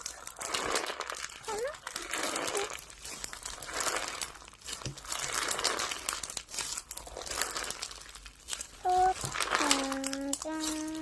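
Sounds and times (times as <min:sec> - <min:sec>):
crinkling and rustling handling noise: 0:00.0 - 0:11.0.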